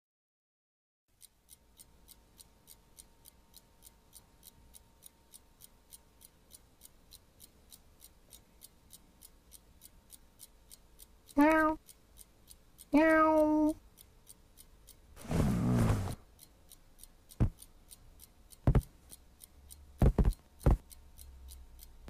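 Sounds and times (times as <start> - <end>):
clock ticking: 1.1 - 22.0
faint steady hum: 1.1 - 22.0.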